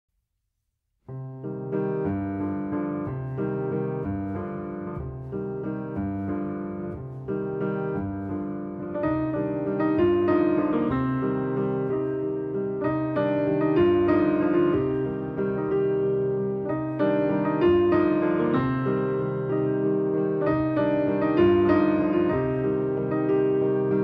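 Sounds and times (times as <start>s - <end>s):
gentle piano melody: 1.1s - 24.0s.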